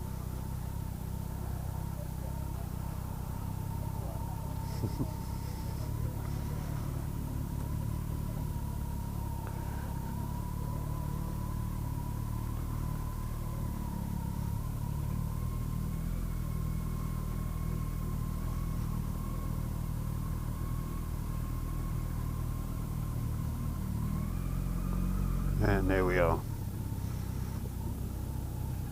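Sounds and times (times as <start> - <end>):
motorcycle engine running slowly: 0.0 - 28.9
thin engine whine: 0.0 - 28.9.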